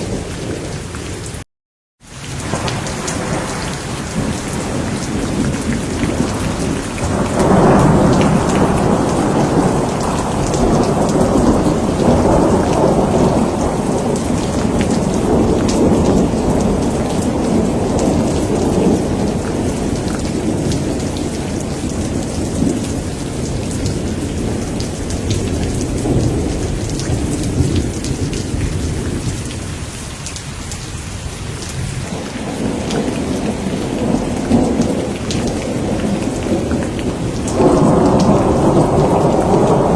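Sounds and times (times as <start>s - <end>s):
heavy rain: 0.0s - 39.9s
rolling thunder rumble: 2.4s - 30.0s, 31.5s - 39.9s.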